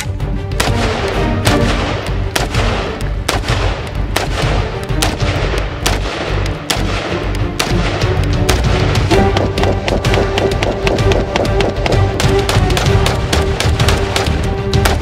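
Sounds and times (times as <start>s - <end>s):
background music: 0.0s - 15.0s
rifle firing single shots: 0.0s - 15.0s.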